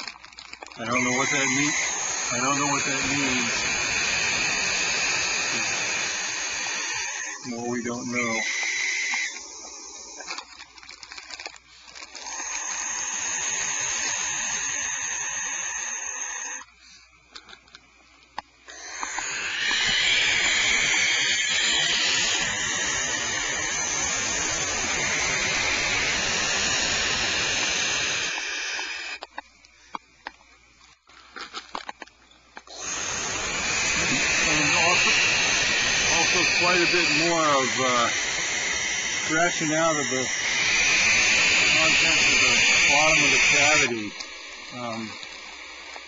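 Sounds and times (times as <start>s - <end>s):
barn owl hissing screams: 0.8s - 10.6s, 12.0s - 16.7s, 18.7s - 29.3s, 32.7s - 46.0s.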